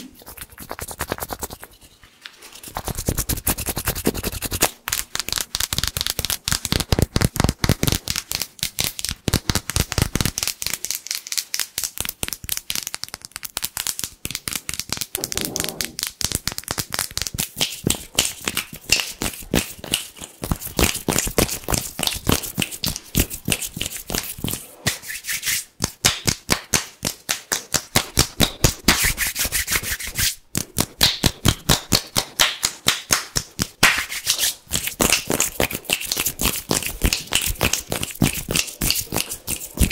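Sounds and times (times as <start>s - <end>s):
hands rubbing and tapping: 0.1s - 39.9s.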